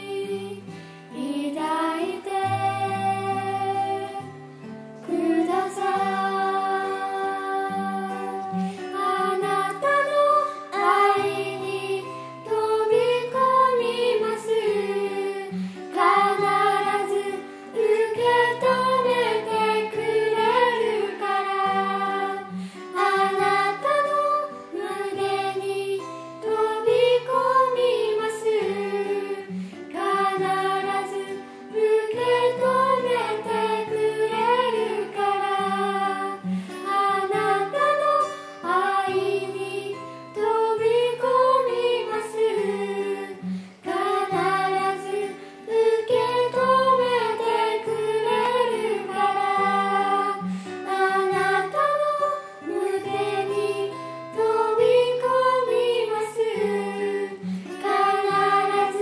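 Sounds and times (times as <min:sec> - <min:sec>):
girls and woman singing: 0:00.0 - 0:59.0.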